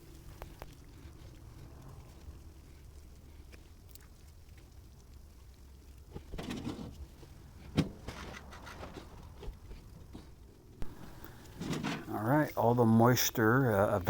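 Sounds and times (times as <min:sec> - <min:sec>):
low steady hum: 0:00.0 - 0:14.0
rustling and handling noise: 0:00.0 - 0:14.0.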